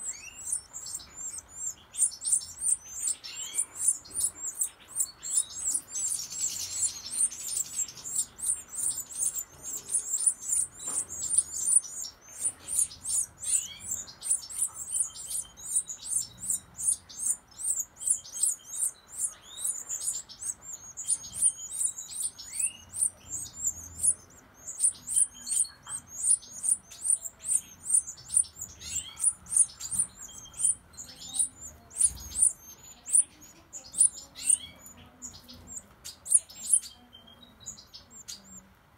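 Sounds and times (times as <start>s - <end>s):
nestlings cheeping: 0.0s - 38.8s.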